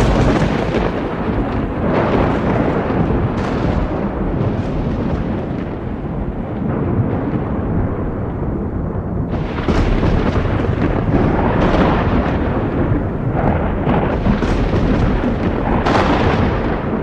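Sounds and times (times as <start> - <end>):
thunder cracks: 0.0 - 17.0
thunder rumbling: 0.0 - 17.0.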